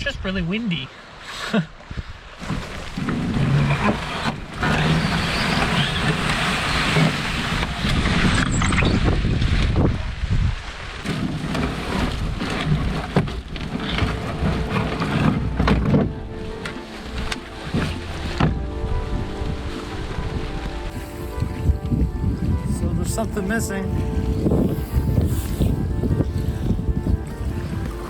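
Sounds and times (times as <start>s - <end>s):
gusting wind on microphone: 1.8s - 28.0s.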